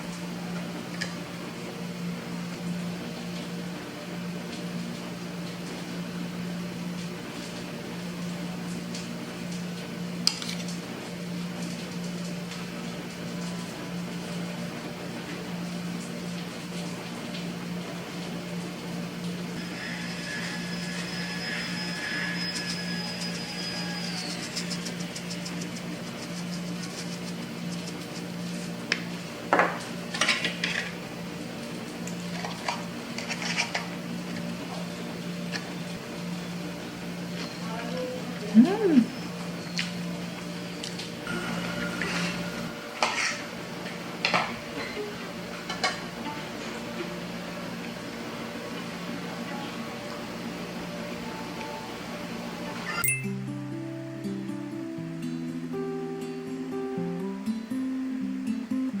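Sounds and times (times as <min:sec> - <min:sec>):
appliance electrical hum: 0:00.0 - 0:59.0.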